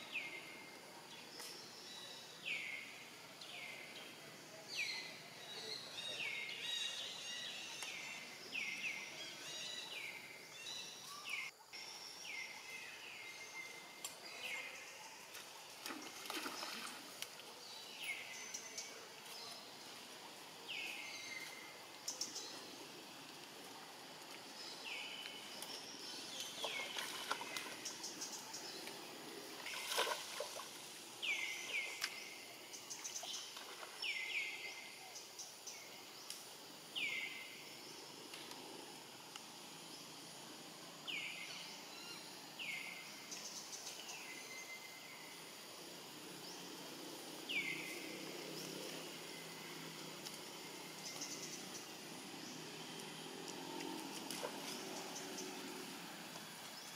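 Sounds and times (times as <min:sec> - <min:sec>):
outdoor background hiss: 0:00.0 - 0:56.9.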